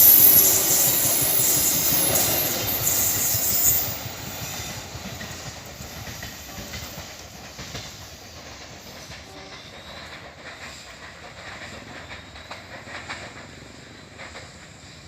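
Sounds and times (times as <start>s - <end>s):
train wagons clattering on rails: 0.0s - 15.0s.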